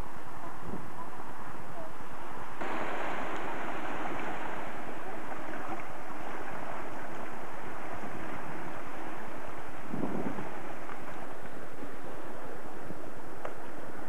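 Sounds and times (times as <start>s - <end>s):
wind buffeting microphone: 0.0s - 14.0s
waves breaking over rocks: 2.1s - 14.0s.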